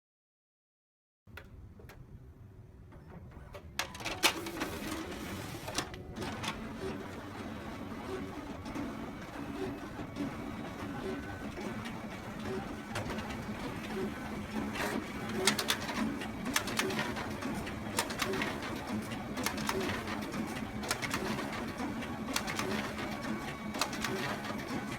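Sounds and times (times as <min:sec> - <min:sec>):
photocopier running: 0:03.0 - 0:24.9.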